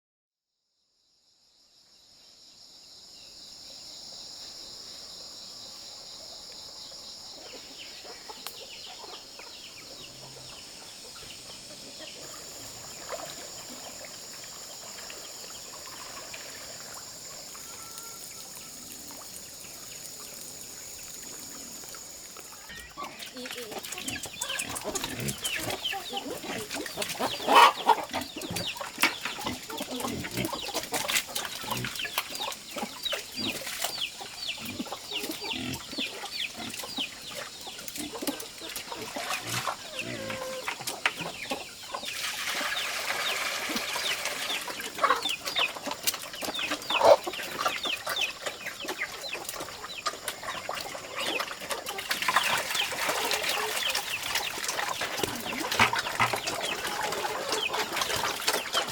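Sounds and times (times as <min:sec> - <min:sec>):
chickens clucking: 0:07.2 - 0:19.0, 0:21.4 - 0:58.9.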